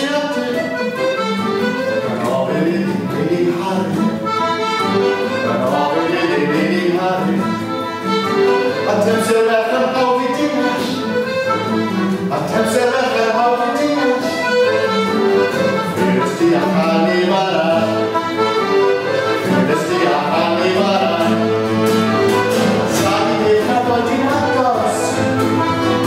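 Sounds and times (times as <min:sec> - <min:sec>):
accordion: 0:00.0 - 0:26.0
acoustic guitar: 0:00.0 - 0:26.0.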